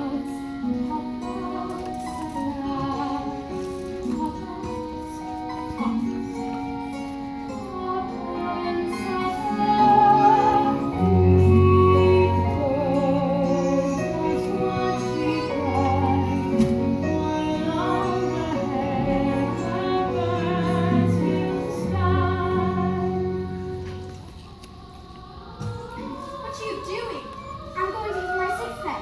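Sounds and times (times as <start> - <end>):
woman singing with vibrato: 0.0 - 6.9, 7.5 - 23.8
soft instrumental accompaniment: 0.0 - 26.3.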